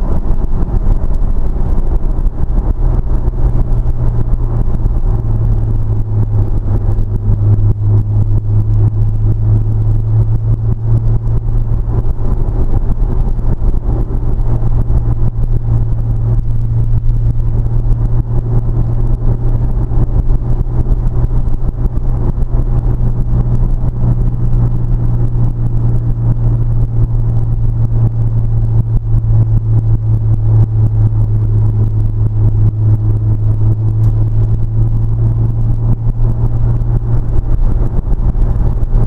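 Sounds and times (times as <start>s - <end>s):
car engine droning: 0.0s - 39.0s
road noise: 0.0s - 39.0s.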